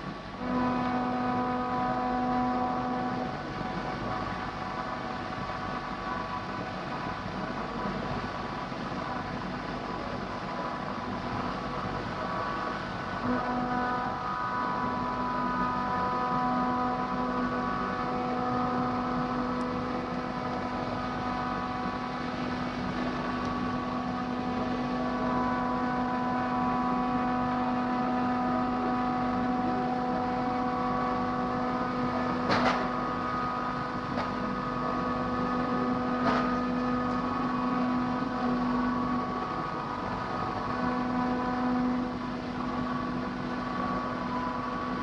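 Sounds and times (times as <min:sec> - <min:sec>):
milling machine humming: 0:00.0 - 0:45.0.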